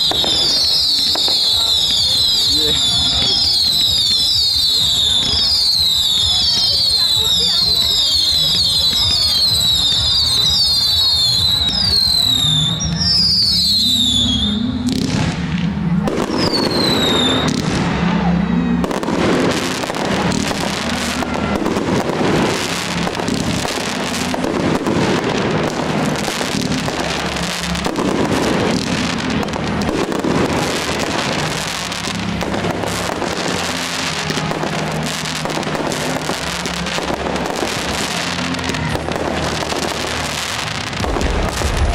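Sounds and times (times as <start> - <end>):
firework whistles: 0.0 - 41.9
fireworks bangs: 0.0 - 41.9
fireworks crackling and popping: 0.0 - 41.9.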